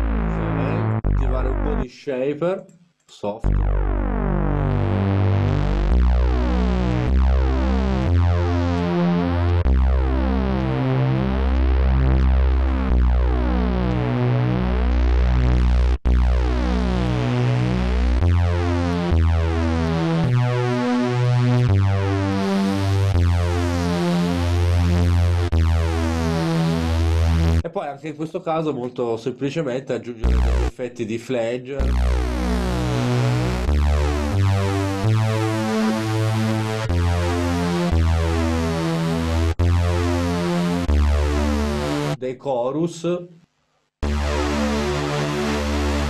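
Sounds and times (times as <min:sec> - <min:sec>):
synth bass: 0:00.0 - 0:01.9, 0:03.4 - 0:27.7, 0:30.2 - 0:31.0, 0:31.8 - 0:42.2, 0:44.0 - 0:46.0
synth lead notes: 0:00.0 - 0:01.9, 0:03.4 - 0:27.7, 0:30.2 - 0:30.8, 0:31.8 - 0:42.2, 0:44.0 - 0:46.0.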